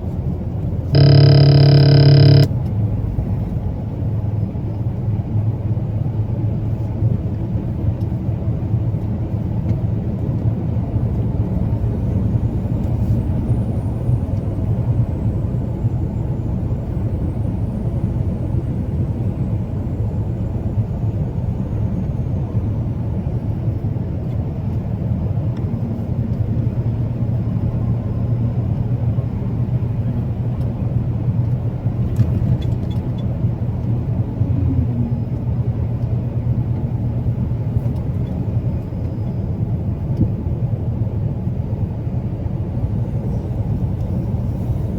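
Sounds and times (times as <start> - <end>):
truck engine and road rumble: 0.0 - 44.9.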